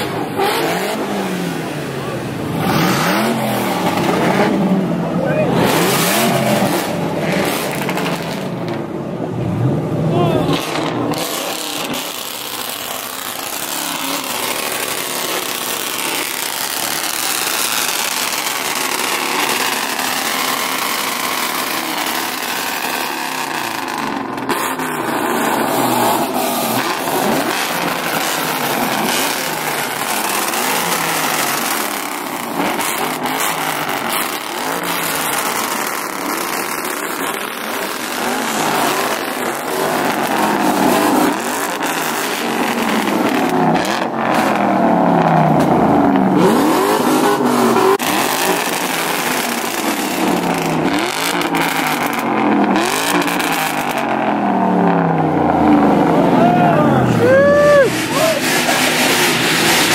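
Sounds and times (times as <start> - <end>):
car engines revving: 0.0 - 59.9
running engines din: 0.0 - 59.9.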